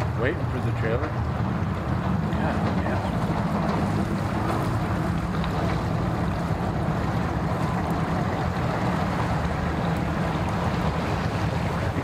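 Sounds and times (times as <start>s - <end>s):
outboard motor running: 0.0s - 12.0s
propeller churning water: 0.0s - 12.0s.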